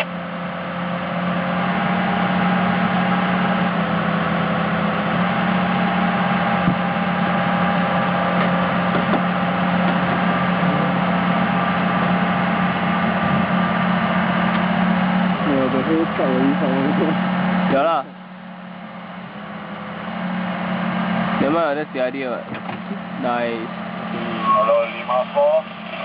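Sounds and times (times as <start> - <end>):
large engine humming: 0.0 - 26.0.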